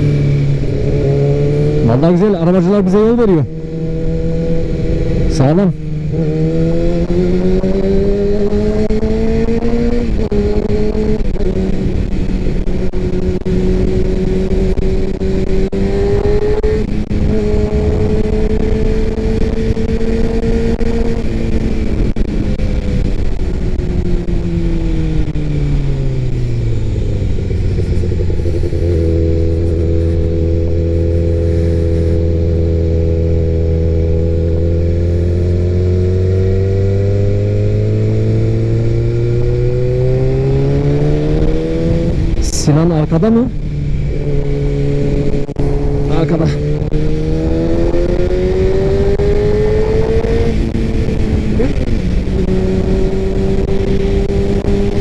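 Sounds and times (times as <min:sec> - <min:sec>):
motorcycle engine revving through gears: 0:00.0 - 0:55.0
wind rush: 0:00.0 - 0:55.0.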